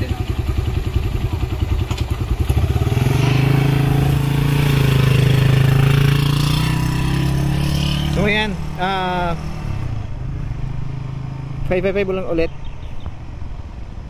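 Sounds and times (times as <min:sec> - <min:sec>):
motorcycle engine: 0:00.0 - 0:12.9.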